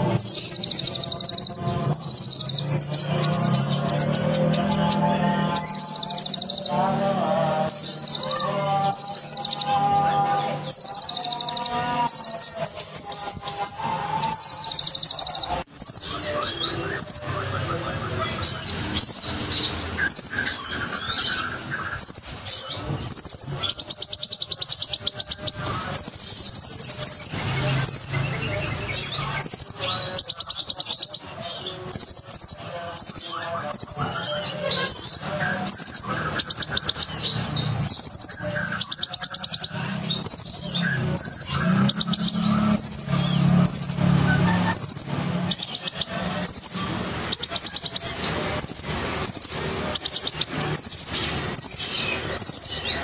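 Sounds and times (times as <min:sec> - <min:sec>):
bird trilling and twittering: 0:00.0 - 0:53.0.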